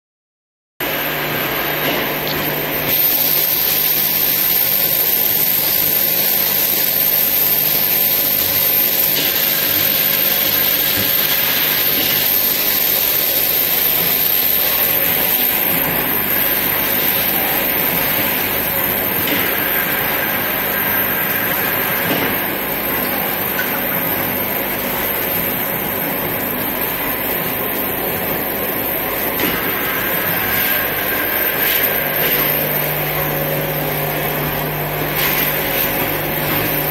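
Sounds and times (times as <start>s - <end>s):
high machine whine: 0.8s - 36.9s
machine running steadily: 0.8s - 36.9s.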